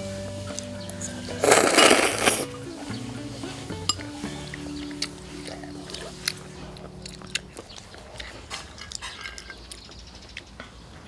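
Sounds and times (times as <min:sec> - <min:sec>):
chewing noodles: 0:00.5 - 0:11.0.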